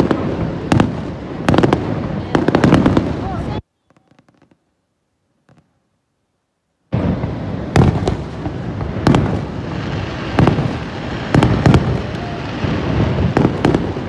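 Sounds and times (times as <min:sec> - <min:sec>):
fireworks bangs: 0:00.0 - 0:04.7, 0:05.4 - 0:05.8, 0:06.9 - 0:14.0.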